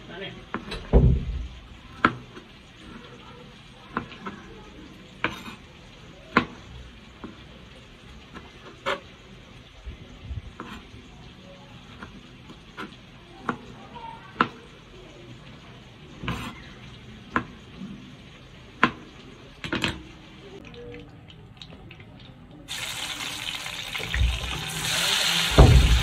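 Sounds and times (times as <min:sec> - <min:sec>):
oil sizzling in frying pan: 0:00.0 - 0:20.6, 0:22.7 - 0:26.0.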